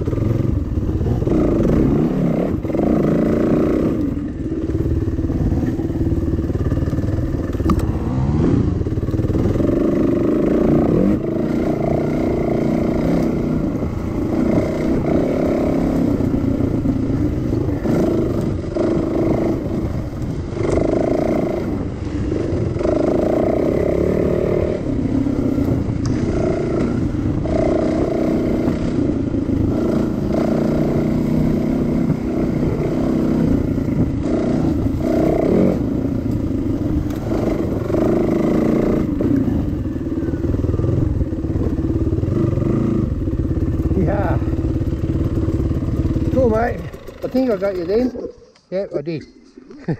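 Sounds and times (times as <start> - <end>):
dirt bike engine revving: 0.0 - 48.5.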